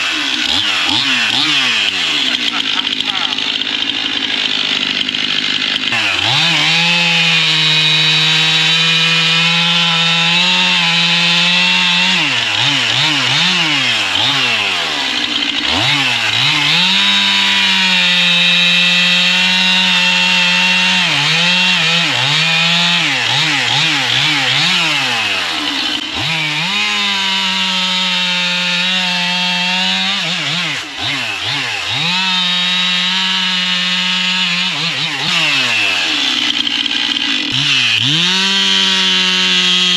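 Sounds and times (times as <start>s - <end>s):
chainsaw sawing through wood: 0.0s - 39.9s.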